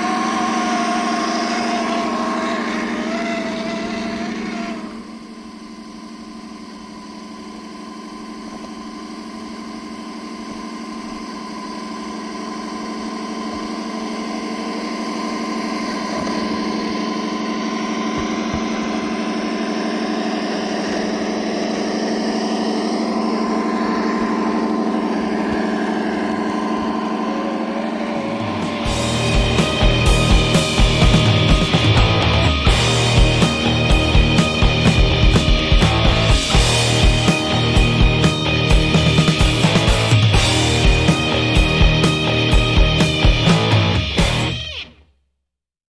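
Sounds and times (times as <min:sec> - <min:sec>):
simulated truck engine through speaker: 0:00.0 - 0:44.6.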